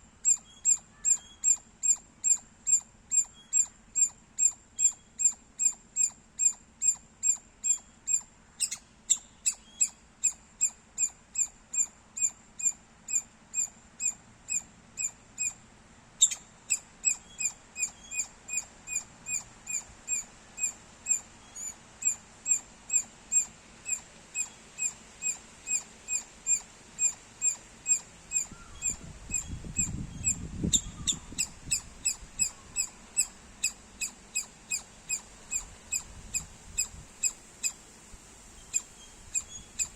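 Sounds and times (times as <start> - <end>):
squirrel chirping: 0.2 - 15.6, 16.2 - 37.8, 38.6 - 39.9.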